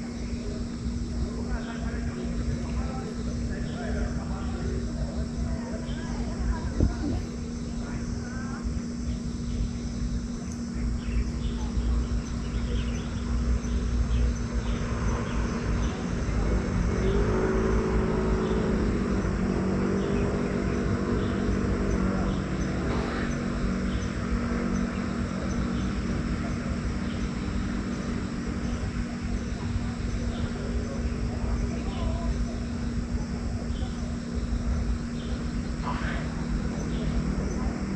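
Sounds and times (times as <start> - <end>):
constant rumble: 0.0 - 37.9
steady low hum: 0.0 - 37.9
vehicle engine: 0.0 - 37.9.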